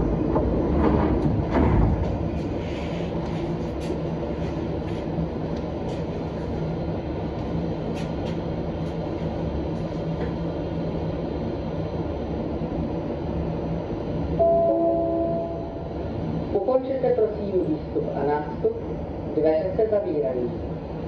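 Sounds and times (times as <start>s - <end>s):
train low hum: 0.0s - 21.0s.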